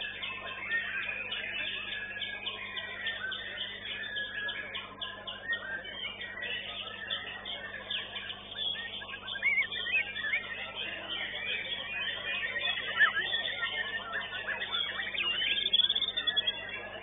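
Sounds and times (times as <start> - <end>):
other birdsong: 0.0 - 17.0
songbird singing chirps and whistles: 0.0 - 17.0.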